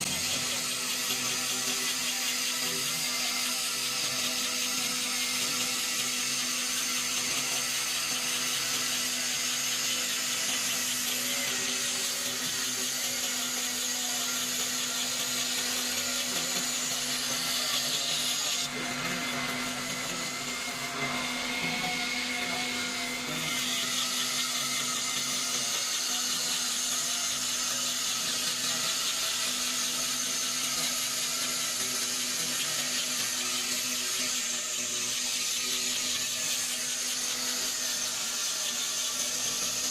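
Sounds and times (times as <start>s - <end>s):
cutting machine high-pitched whine: 0.0s - 39.9s.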